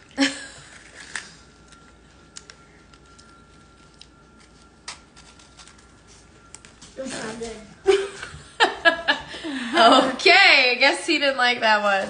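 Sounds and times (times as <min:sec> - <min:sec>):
faint steady high tone: 0:00.0 - 0:11.6.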